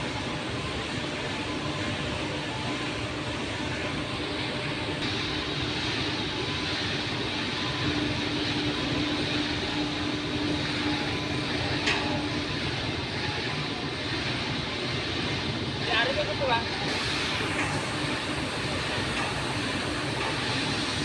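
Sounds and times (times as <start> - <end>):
heavy machinery running: 0.0 - 21.0.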